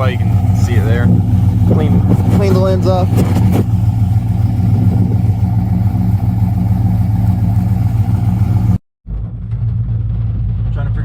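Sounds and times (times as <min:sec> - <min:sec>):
vehicle drone inside cab: 0:00.0 - 0:11.0.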